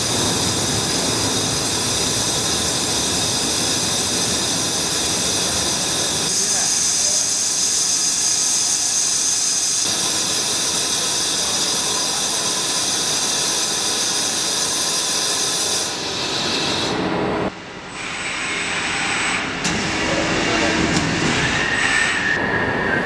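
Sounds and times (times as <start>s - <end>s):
lathe machining hiss: 0.0s - 17.2s, 17.9s - 22.4s.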